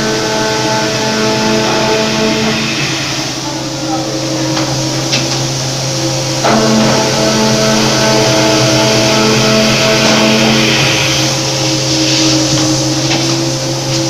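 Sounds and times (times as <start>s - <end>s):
circular saw motor hum: 0.0s - 14.0s
whining tones: 0.0s - 14.0s.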